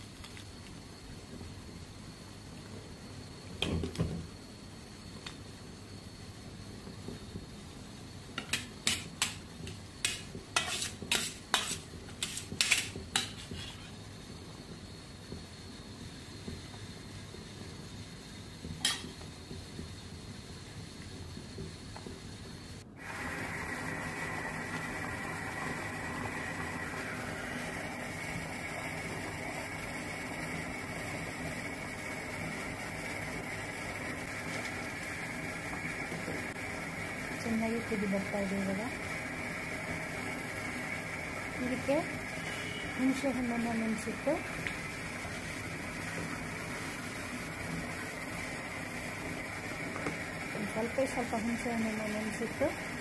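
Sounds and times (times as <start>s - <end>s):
steady hiss: 0.0s - 53.0s.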